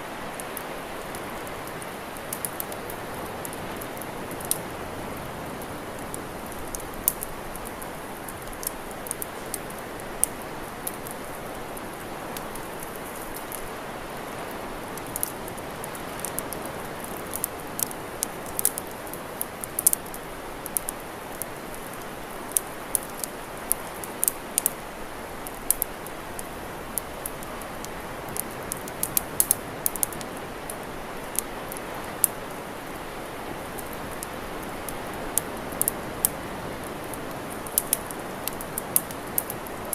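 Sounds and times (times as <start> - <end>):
campfire crackling and popping: 0.2 - 39.9.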